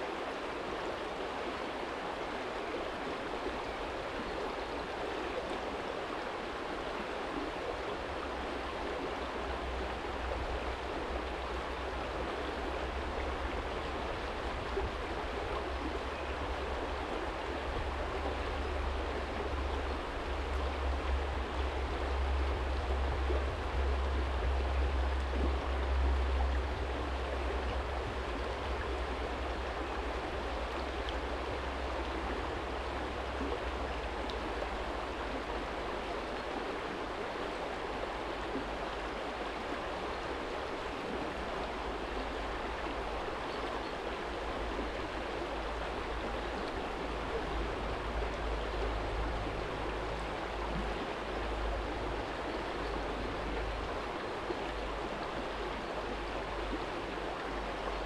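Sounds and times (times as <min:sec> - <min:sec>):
low water rumble: 0:00.0 - 0:58.0
stream rushing over stones: 0:00.0 - 0:58.0.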